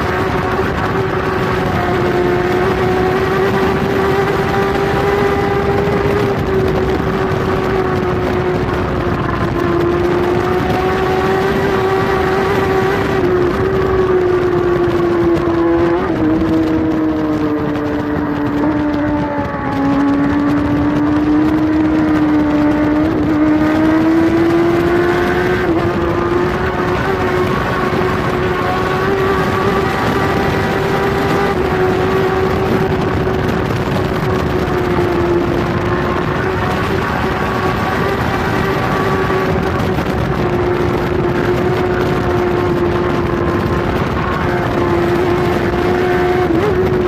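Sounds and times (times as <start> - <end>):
motorcycle engine at high revs: 0.0 - 47.0
wind rush: 0.0 - 47.0.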